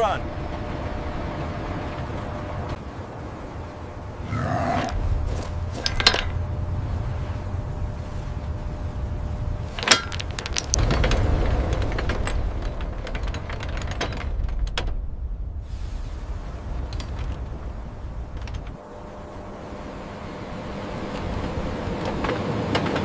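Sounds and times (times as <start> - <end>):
steady low rumble: 0.0 - 22.5.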